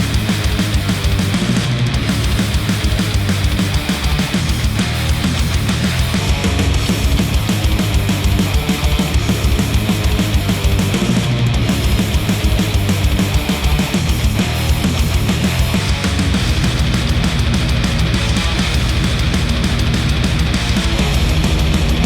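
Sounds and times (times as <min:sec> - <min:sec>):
loud rock music through headphone: 0:00.0 - 0:22.0.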